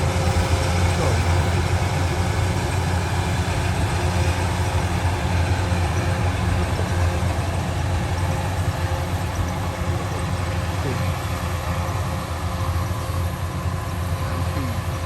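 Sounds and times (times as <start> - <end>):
heavy engine running steadily: 0.0 - 15.0.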